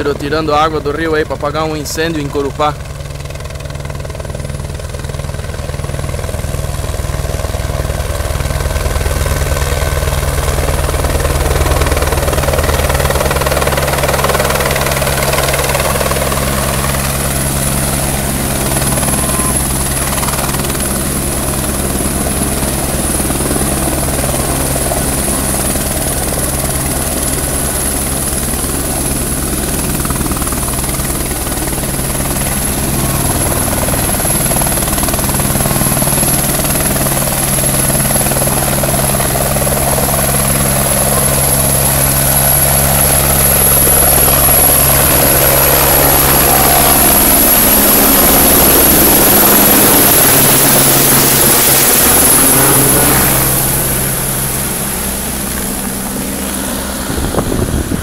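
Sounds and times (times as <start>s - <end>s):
helicopter rotor beat: 0.0s - 58.0s
turbine whine: 4.3s - 58.0s.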